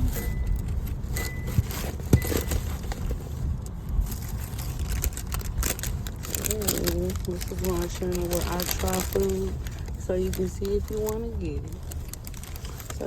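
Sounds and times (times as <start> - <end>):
low rumble: 0.0 - 13.0
paper crinkling: 0.0 - 13.0.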